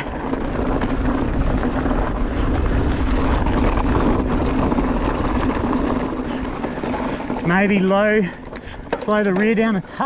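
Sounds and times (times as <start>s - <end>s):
wind rushing over microphone: 0.0s - 8.2s
tyres rolling on dirt: 0.0s - 10.0s.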